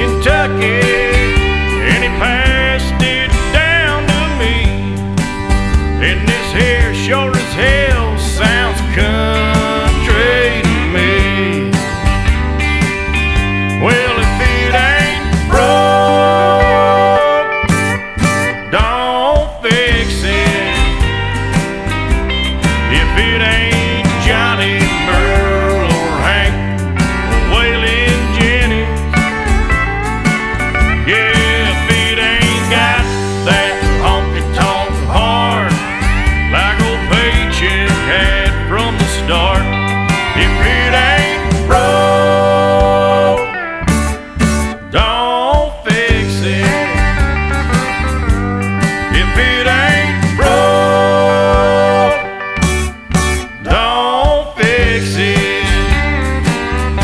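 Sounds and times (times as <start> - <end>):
country music with guitars: 0.0 - 57.0.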